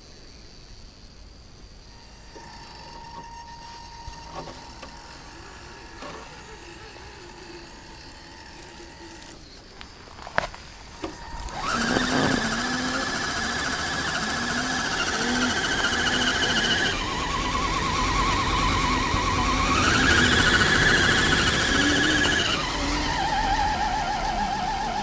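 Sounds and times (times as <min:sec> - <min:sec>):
rc car motor whining: 0:00.6 - 0:25.0
wheels spinning in dirt: 0:01.8 - 0:25.0.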